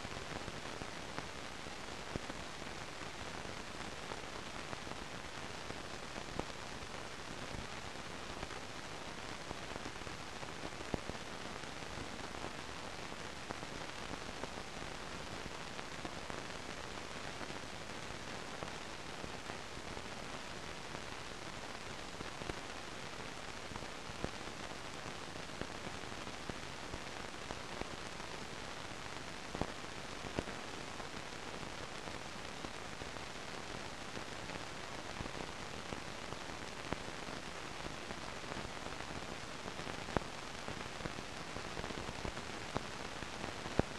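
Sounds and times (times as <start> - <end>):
faint clicks and crackles: 0.0 - 43.9
steady film soundtrack hiss: 0.0 - 43.9.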